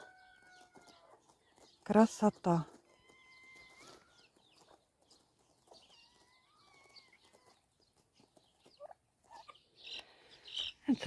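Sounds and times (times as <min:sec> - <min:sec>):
young poultry peeping: 0:00.0 - 0:01.8, 0:02.4 - 0:11.0.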